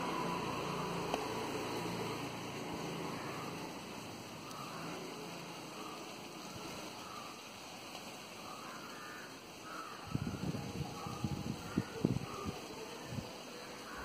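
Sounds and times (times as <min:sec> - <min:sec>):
faint outdoor background hiss: 0:00.0 - 0:14.0.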